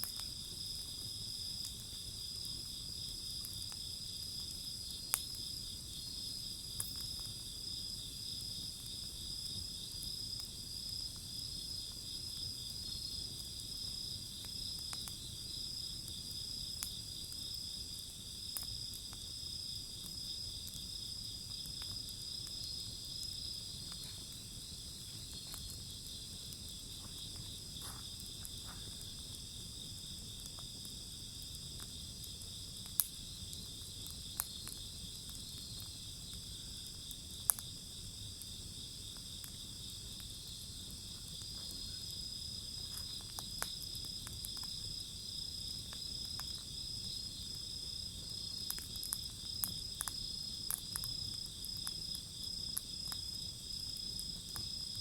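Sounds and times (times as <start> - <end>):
crickets chirping: 0.0 - 55.0
wood fire popping: 0.0 - 55.0.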